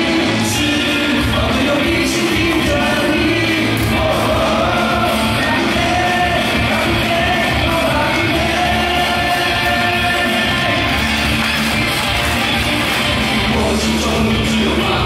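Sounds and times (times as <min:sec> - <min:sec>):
cheer song over loudspeakers: 0:00.0 - 0:15.0
fans shouting along: 0:00.0 - 0:15.0.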